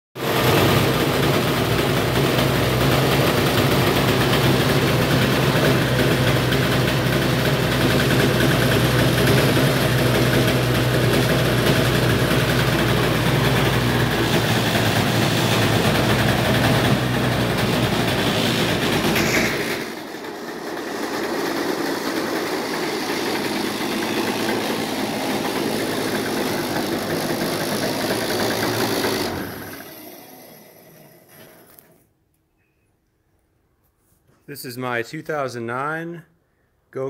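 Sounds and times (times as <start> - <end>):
two-stroke kart engine idling: 0.2 - 31.8.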